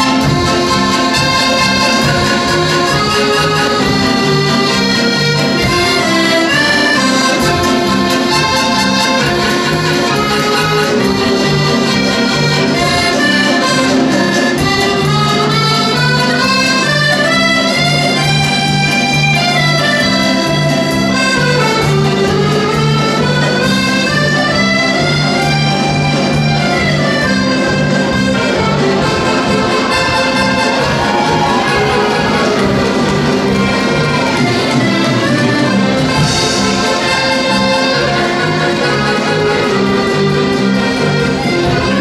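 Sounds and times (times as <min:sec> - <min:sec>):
accordion ensemble dance tune: 0:00.0 - 0:42.0.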